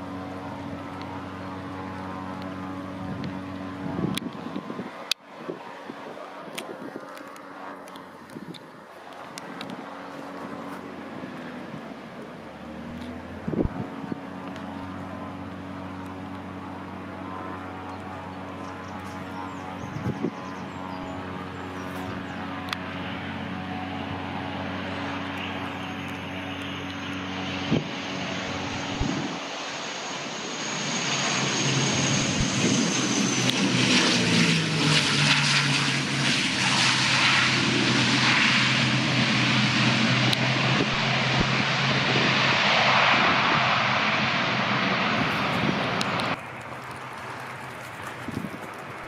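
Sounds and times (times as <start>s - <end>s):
turboprop airliner engines droning: 0.0s - 49.0s.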